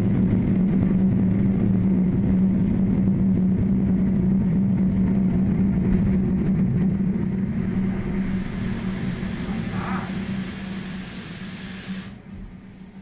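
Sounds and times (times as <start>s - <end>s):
building collapsing rumble: 0.0s - 11.0s.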